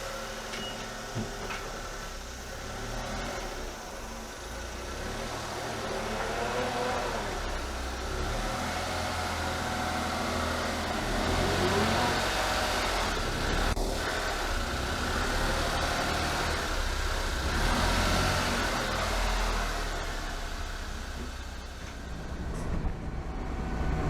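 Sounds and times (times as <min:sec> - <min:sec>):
van engine hum: 0:00.0 - 0:24.0
road noise: 0:01.0 - 0:24.0.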